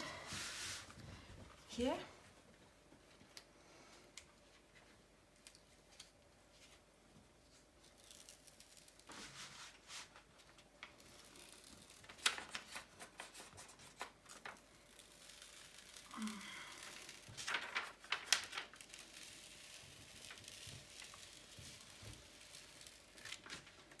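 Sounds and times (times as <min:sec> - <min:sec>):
paper peeling and crackling: 0:04.6 - 0:24.0.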